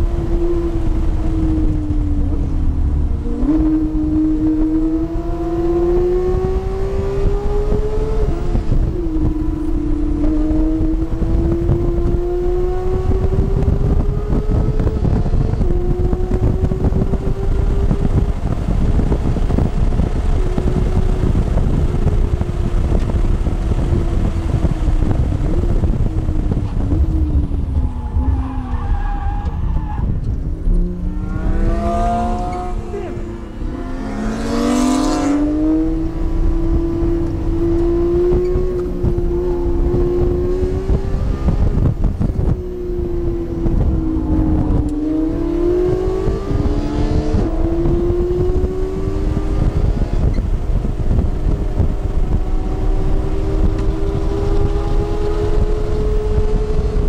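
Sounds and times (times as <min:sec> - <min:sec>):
car engine accelerating: 0:00.0 - 0:57.0
road and wind rumble: 0:00.0 - 0:57.0.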